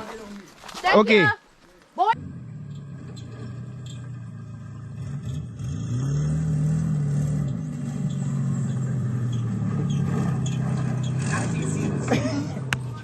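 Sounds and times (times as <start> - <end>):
car engine accelerating: 2.2 - 13.0.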